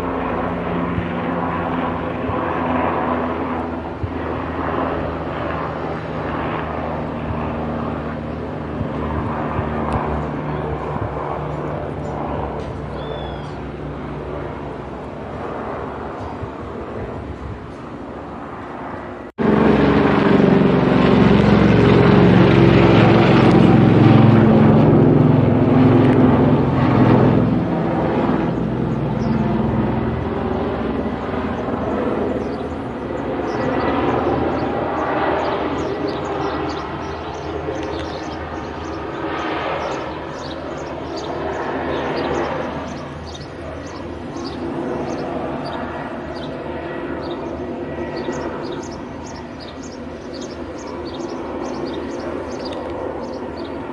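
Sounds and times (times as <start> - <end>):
helicopter flying overhead: 0.0 - 53.9.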